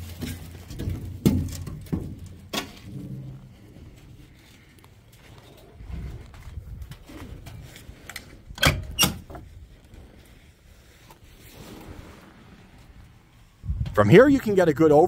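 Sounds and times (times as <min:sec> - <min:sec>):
creaks and handling noise: 0:00.0 - 0:14.2.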